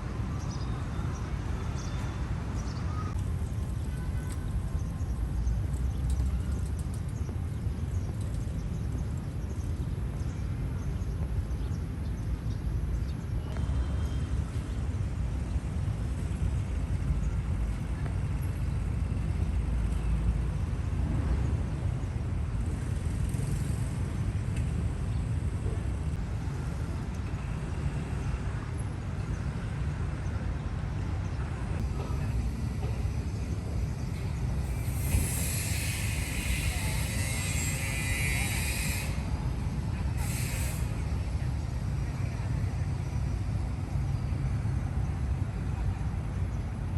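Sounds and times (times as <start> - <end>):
city street traffic rumble: 0.0 - 46.9.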